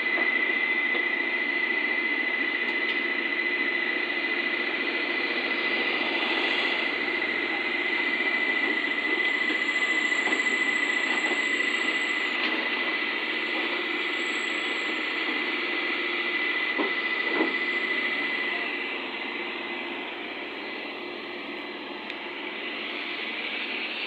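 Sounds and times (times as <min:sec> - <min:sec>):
excavator diesel engine whining: 0:00.0 - 0:24.0.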